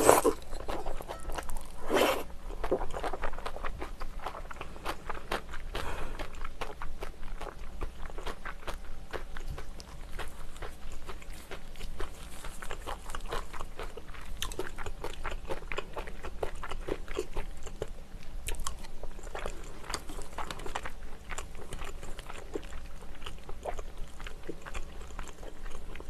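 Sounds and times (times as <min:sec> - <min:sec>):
wet chewing clicks and smacks: 0:02.6 - 0:26.0.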